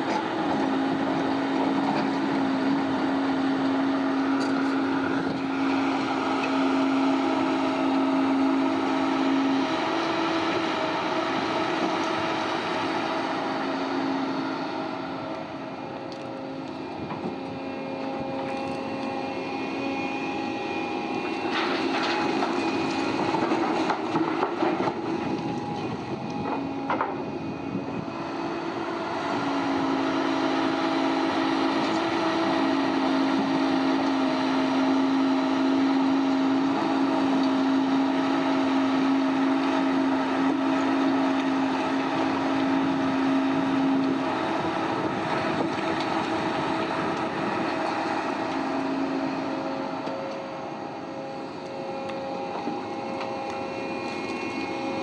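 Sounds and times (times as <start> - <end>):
heavy machinery humming: 0.0 - 55.0.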